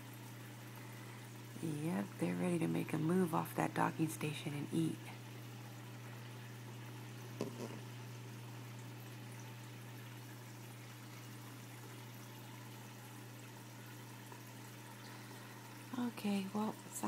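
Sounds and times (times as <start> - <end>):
aquarium filter hum: 0.0 - 17.0
trickling water: 0.0 - 17.0.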